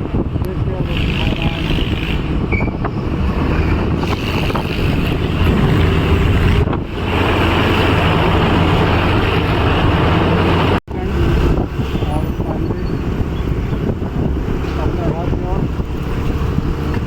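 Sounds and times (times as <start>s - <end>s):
vehicle engine humming: 0.0s - 17.0s
wind buffeting microphone: 0.0s - 17.0s.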